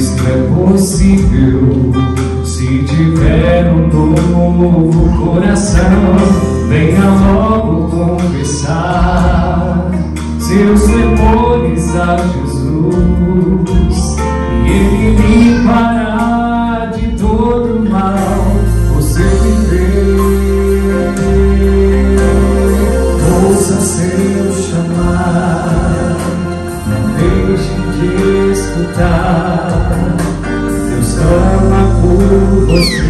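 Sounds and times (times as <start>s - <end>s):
gospel singing: 0.0s - 33.0s
instrumental accompaniment: 0.0s - 33.0s
sustained bass: 0.0s - 33.0s.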